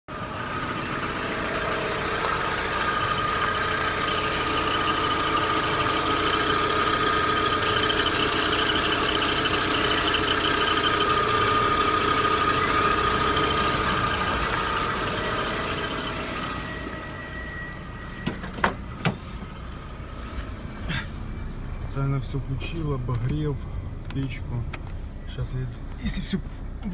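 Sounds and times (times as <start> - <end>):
car engine with high whistle: 0.1 - 26.9.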